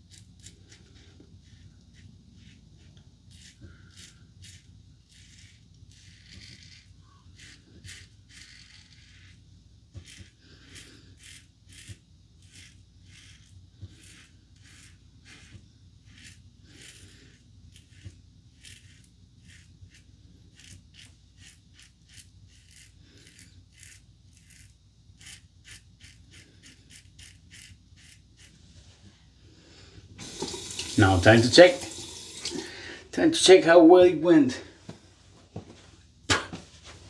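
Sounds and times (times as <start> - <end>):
razor scraping stubble: 0.0 - 9.4, 10.0 - 28.8, 30.2 - 32.7.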